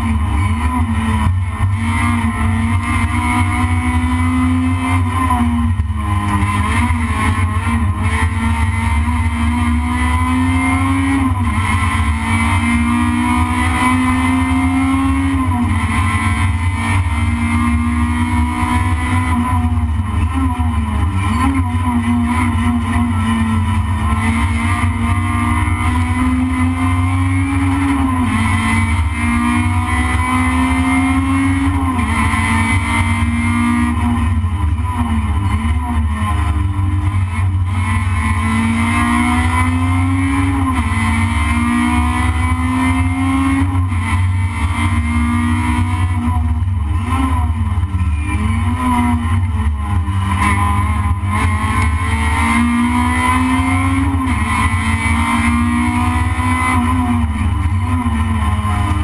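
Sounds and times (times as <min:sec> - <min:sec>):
race car engine revving through gears: 0:00.0 - 0:59.0.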